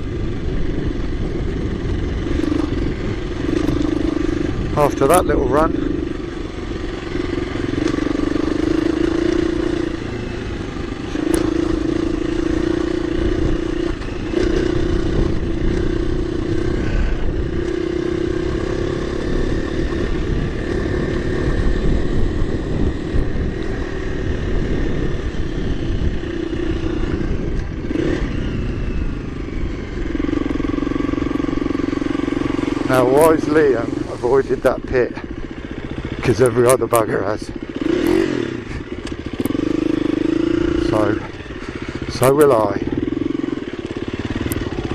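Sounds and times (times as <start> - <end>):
dirt bike engine: 0.0 - 44.9
rumble of riding noise: 0.0 - 44.9.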